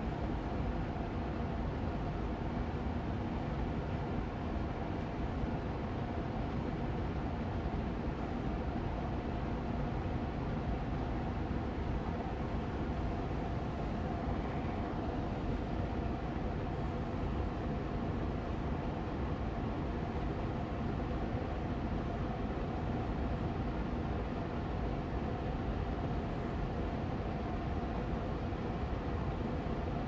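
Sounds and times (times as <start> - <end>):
air purifier fan running: 0.0 - 30.0
faint constant tone: 0.0 - 30.0.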